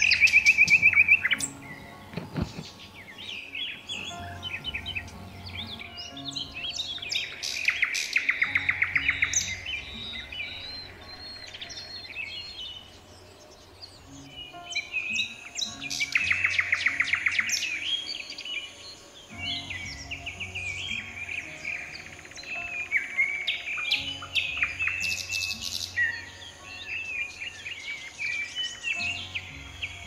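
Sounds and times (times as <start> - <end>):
bird trill: 0.0 - 30.0
birds singing and chirping: 0.0 - 30.0.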